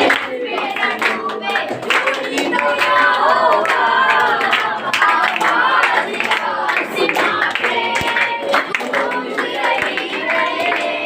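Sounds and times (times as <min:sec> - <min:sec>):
many voices singing: 0:00.0 - 0:11.0
people clapping hands: 0:00.0 - 0:11.0.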